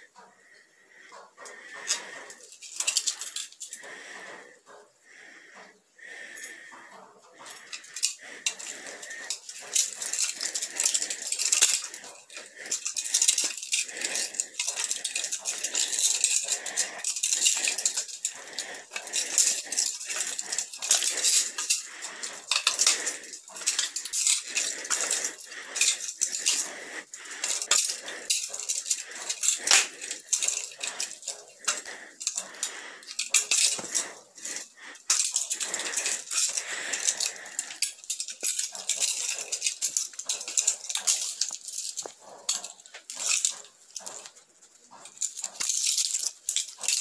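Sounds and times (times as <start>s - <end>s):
toy dagger rattling and clicking: 1.4s - 4.3s, 6.2s - 47.0s.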